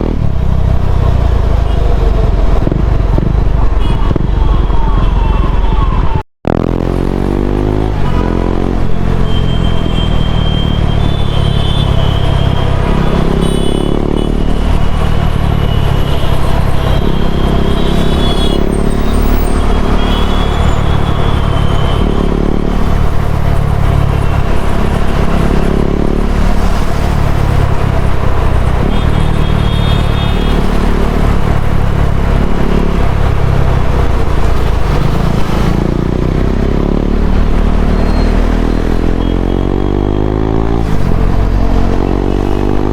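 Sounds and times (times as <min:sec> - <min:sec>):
motorcycle engine revving: 0:00.0 - 0:04.6, 0:06.4 - 0:42.9.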